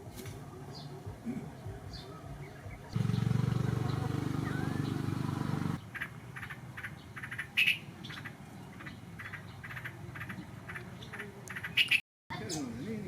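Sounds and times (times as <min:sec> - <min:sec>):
bird chirping: 0:00.6 - 0:13.0.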